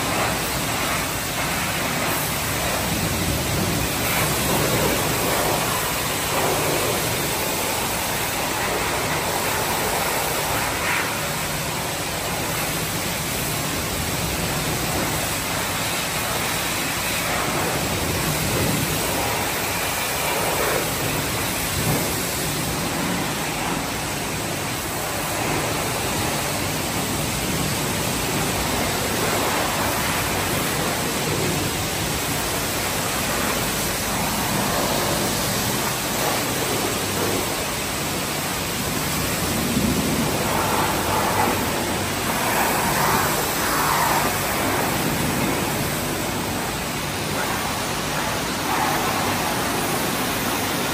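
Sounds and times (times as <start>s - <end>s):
pressure washer spraying water: 0.0s - 50.9s.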